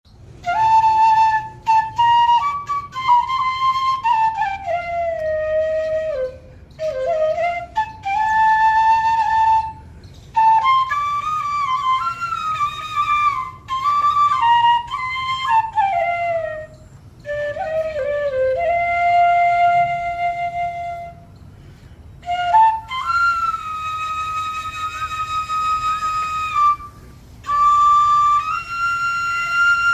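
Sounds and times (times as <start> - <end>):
solo flute melody: 0.1 - 29.9.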